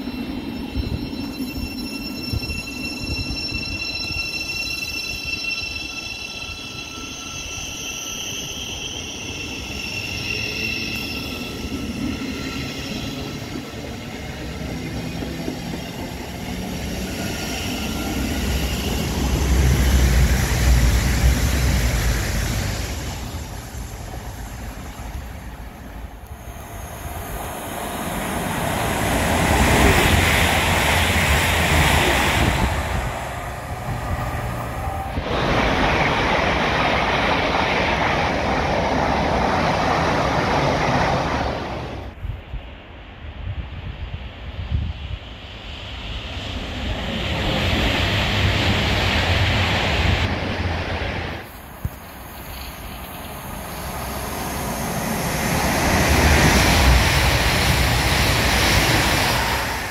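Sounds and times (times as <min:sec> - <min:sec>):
diesel train approaching: 0:00.0 - 0:43.3, 0:44.3 - 0:59.9
low rail rumble: 0:09.4 - 0:59.9.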